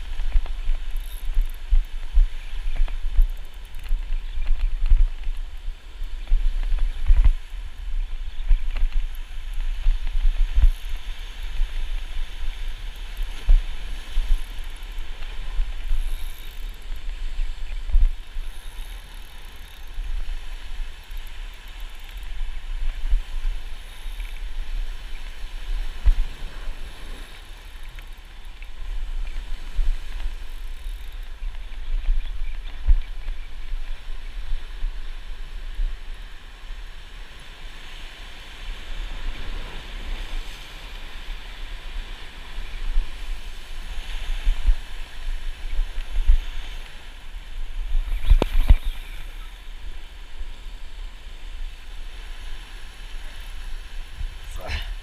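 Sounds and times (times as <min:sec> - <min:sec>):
surf washing over rocks: 0:00.0 - 0:55.0
wind gusting on microphone: 0:00.0 - 0:55.0.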